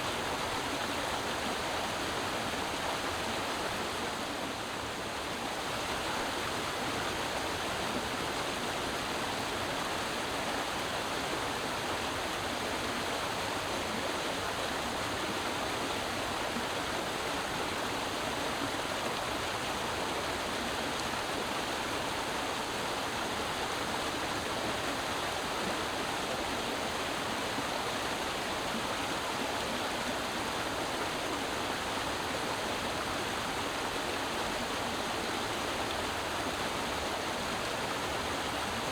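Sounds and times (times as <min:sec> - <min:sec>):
creek water flowing over rocks: 0:00.0 - 0:38.9.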